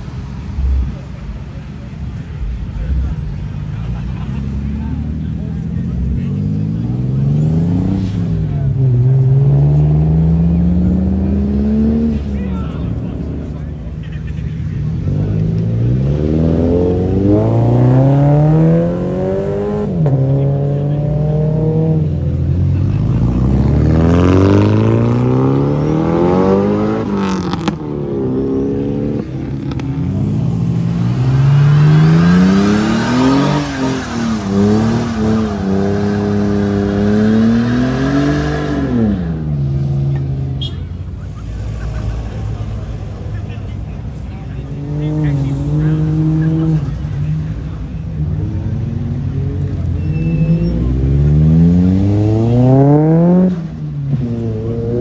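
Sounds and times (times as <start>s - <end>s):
car engines revving through gears: 0.0s - 55.0s.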